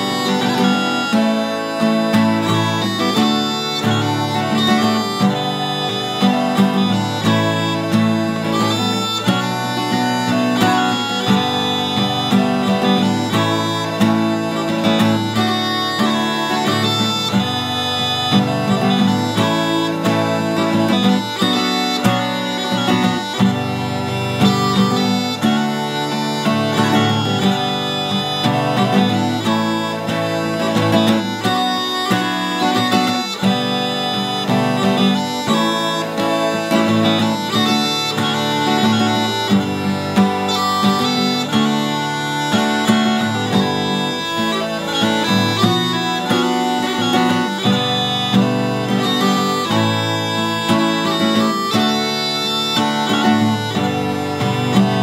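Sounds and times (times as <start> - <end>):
acoustic guitar strumming: 0.0 - 55.0
bagpipe playing a tune: 0.0 - 55.0.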